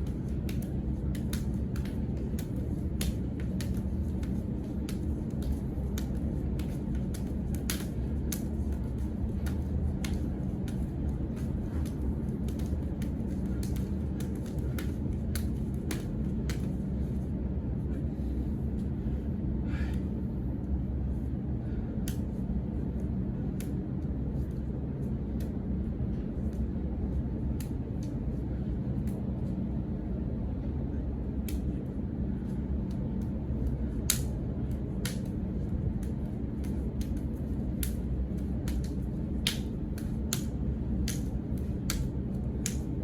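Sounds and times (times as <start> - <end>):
hands slapping arms: 0.0 - 17.2, 22.0 - 29.3, 31.4 - 43.0
steady low rumble: 0.0 - 43.0.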